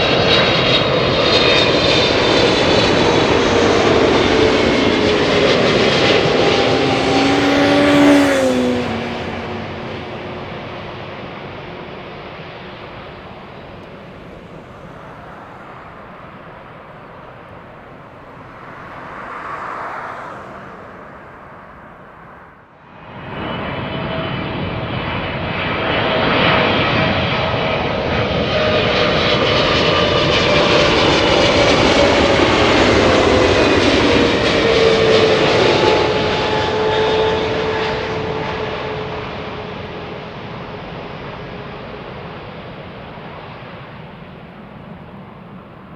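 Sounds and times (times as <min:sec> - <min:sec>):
distant aircraft rumble: 0:00.0 - 0:45.9
jet airliner passing: 0:00.0 - 0:45.9.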